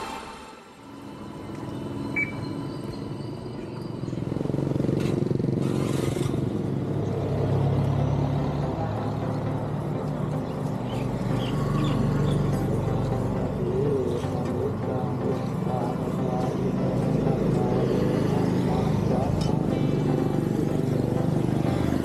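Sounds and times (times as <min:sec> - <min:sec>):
street traffic: 0:00.0 - 0:22.0
vehicle engine running: 0:03.6 - 0:22.0.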